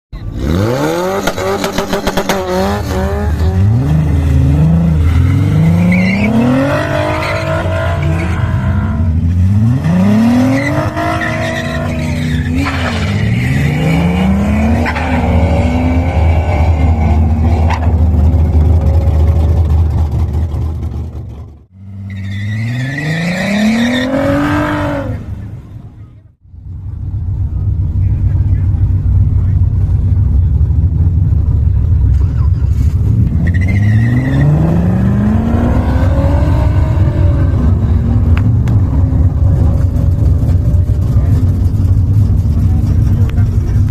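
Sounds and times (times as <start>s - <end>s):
car engine accelerating hard: 0.2s - 21.7s, 27.4s - 43.9s.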